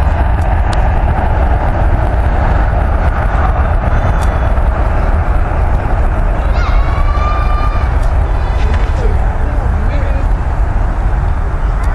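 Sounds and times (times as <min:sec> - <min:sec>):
jet airliner engines roaring: 0:00.0 - 0:11.9.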